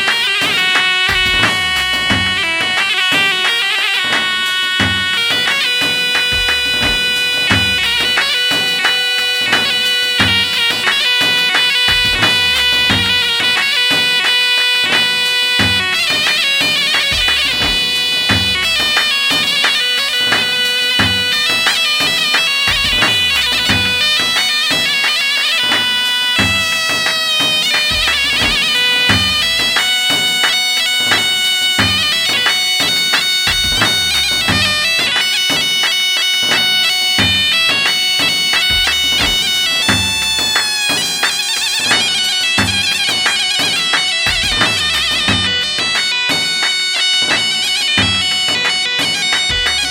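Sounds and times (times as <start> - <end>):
drum beat: 0.0 - 49.9
reed-pipe melody: 0.0 - 49.9
steady drone: 1.0 - 2.8, 5.0 - 13.8, 15.4 - 36.0, 36.8 - 46.0.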